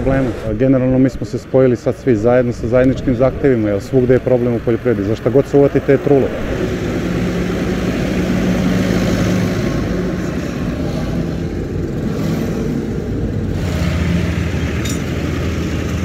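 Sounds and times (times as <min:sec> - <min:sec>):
tractor engines running: 0:00.0 - 0:16.0
tyre and road noise: 0:00.0 - 0:16.0.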